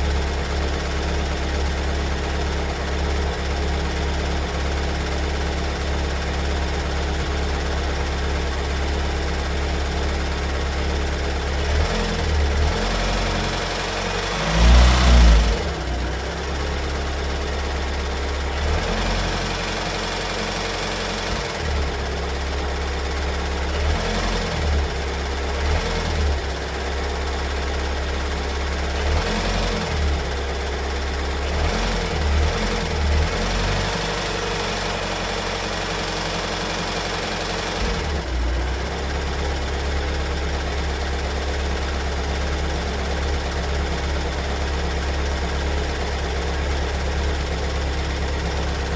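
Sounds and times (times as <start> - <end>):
diesel engine idling with knocking: 0.0 - 48.9.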